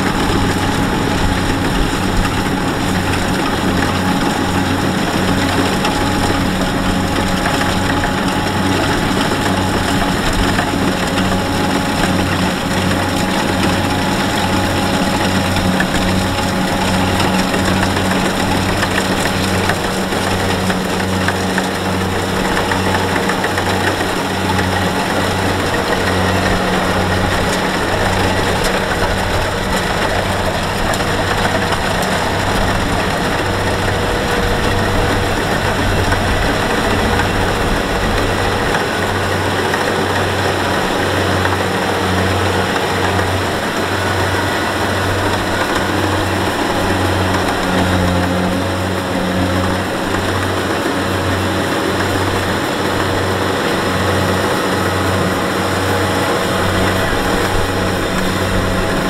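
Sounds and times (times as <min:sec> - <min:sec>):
diesel engine throbbing: 0:00.0 - 0:59.0.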